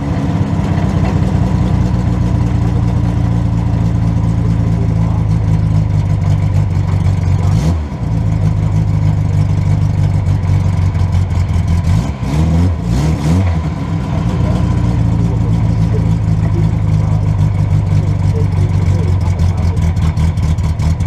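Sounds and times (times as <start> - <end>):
car engine idling: 0.0 - 21.0
engine throttle blips: 0.0 - 21.0.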